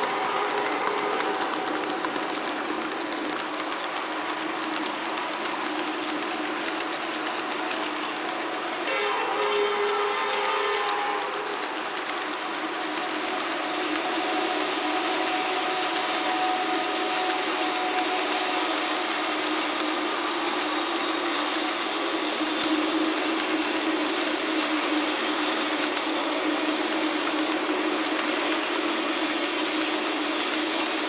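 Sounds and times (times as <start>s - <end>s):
model train wheels rumbling: 0.0s - 31.0s.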